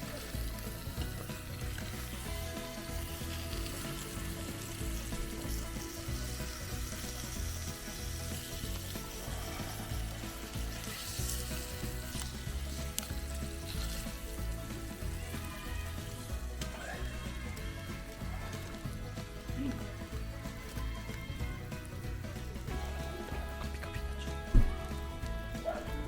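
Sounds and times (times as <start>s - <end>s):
food sizzling in a pan: 0.0s - 23.9s.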